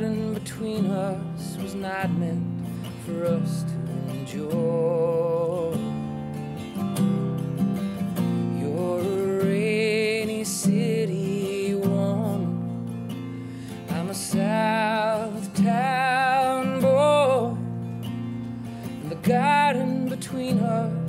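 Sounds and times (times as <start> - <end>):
man singing slow song: 0.0 - 6.2, 8.4 - 17.8, 18.7 - 21.0
acoustic guitar strumming: 0.0 - 21.0.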